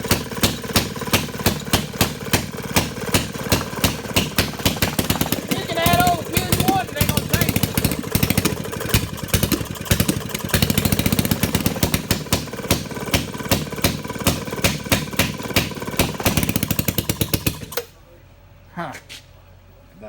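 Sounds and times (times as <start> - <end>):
two-stroke engine firing rapidly: 0.0 - 18.0.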